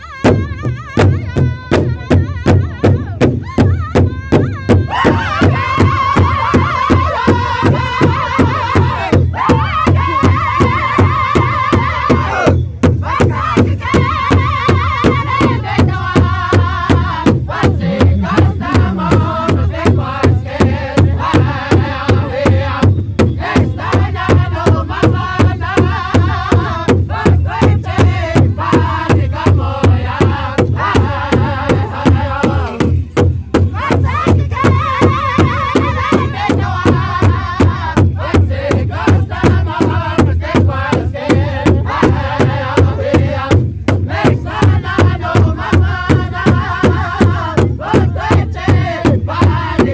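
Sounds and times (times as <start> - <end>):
powwow drum beat: 0.0 - 49.9
singers singing in unison: 4.2 - 32.9, 33.7 - 49.9.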